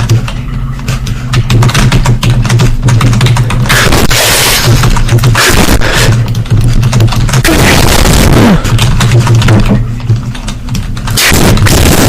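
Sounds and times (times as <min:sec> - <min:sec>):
dense distorted crackling: 0:00.0 - 0:12.0.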